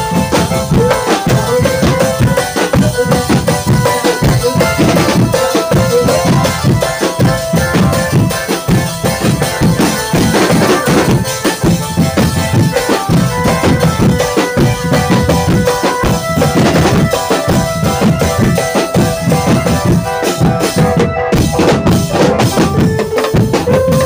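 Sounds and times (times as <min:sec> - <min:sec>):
percussion-led band music: 0:00.0 - 0:24.0.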